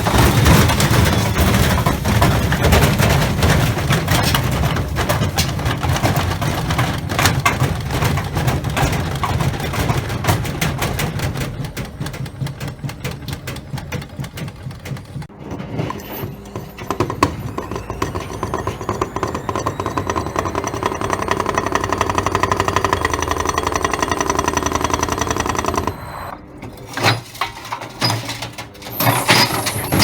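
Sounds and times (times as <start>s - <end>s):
washing machine spinning: 0.0s - 26.6s.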